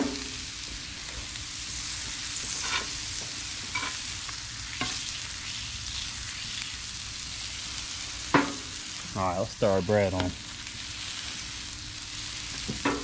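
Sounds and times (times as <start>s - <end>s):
fish and butter sizzling on griddle: 0.0s - 13.0s.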